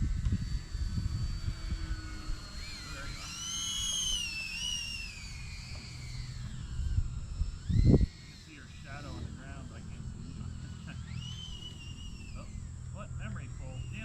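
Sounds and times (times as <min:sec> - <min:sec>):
wind rumble on microphone: 0:00.0 - 0:03.4, 0:05.9 - 0:14.0
electric motor and propeller whine: 0:00.0 - 0:14.0.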